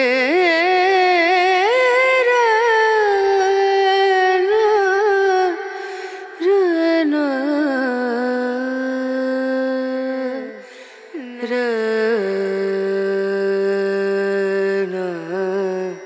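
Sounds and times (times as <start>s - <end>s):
person singing slow melody: 0.0s - 16.0s.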